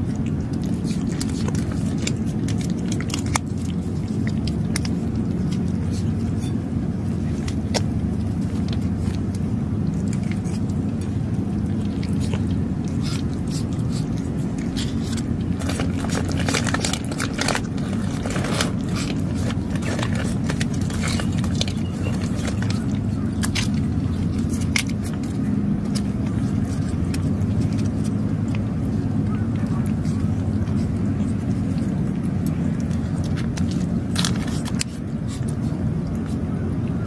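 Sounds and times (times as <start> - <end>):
cat crunching dry food: 0.0 - 37.0.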